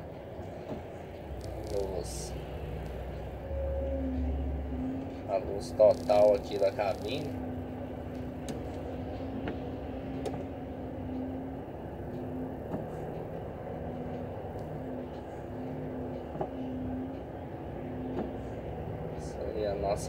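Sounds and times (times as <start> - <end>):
humming tone: 0.0 - 19.5
truck engine rumble: 0.0 - 20.0.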